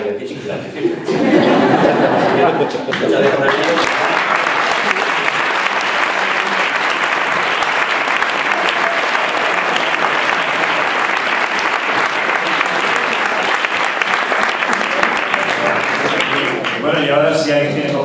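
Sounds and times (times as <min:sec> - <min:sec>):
audience applauding: 0:01.2 - 0:17.3.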